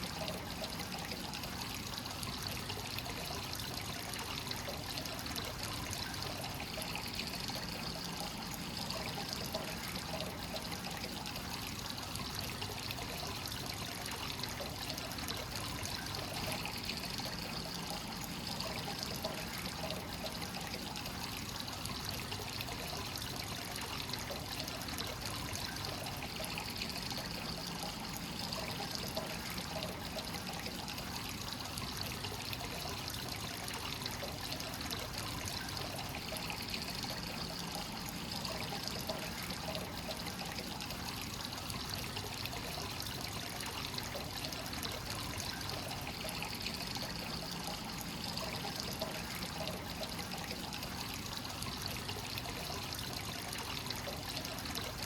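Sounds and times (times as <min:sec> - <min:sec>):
water pouring into a bath: 0:00.0 - 0:55.0.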